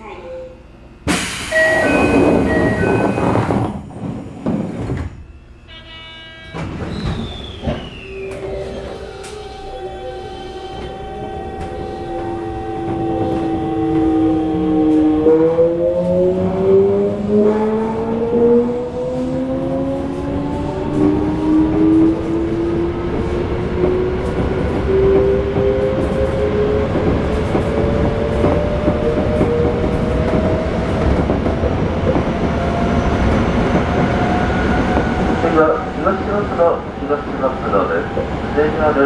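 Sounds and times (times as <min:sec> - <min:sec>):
wheels rumbling on rails: 0:01.6 - 0:05.2, 0:06.5 - 0:39.0.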